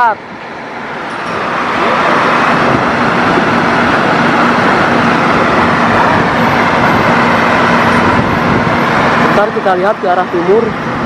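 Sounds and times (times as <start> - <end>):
loud vehicle engine noise: 0.0 - 11.0.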